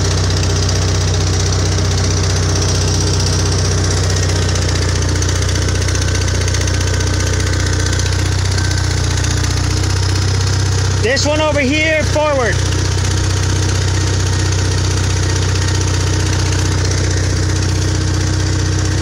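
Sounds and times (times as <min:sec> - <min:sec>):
loader engine droning: 0:00.0 - 0:19.0.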